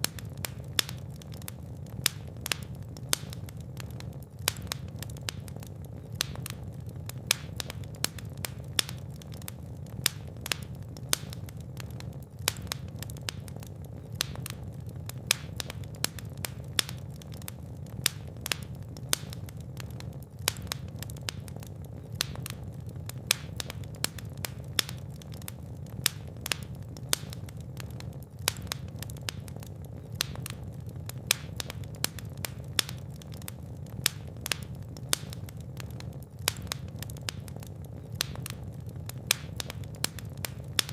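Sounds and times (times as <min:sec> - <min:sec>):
sharp snaps and pops: 0:00.0 - 0:40.9
wood fire crackling: 0:00.0 - 0:40.9.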